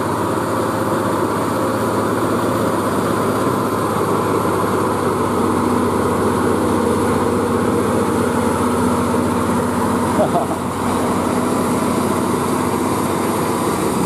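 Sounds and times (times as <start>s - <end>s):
diesel truck engine under load: 0.0s - 14.0s.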